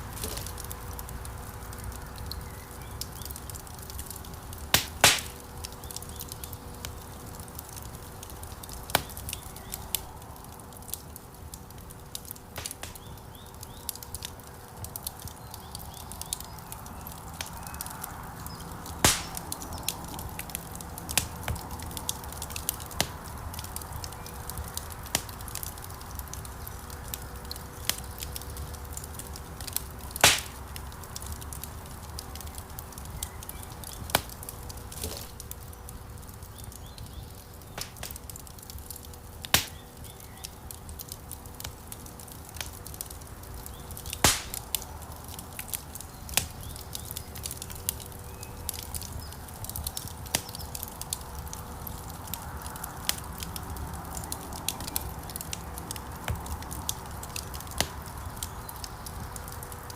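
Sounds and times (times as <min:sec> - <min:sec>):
loud fire snaps: 0:00.0 - 0:59.9
wood fire crackling: 0:00.0 - 0:59.9.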